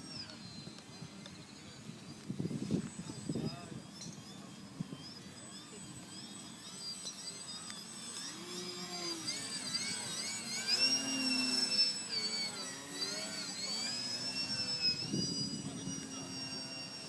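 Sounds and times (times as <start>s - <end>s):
model plane electric motor whining: 0.0s - 17.0s.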